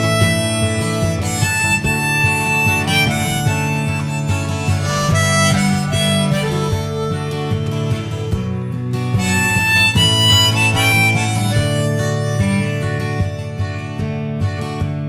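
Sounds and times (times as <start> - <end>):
harmonica melody: 0.0 - 14.8
acoustic guitar: 0.0 - 15.0.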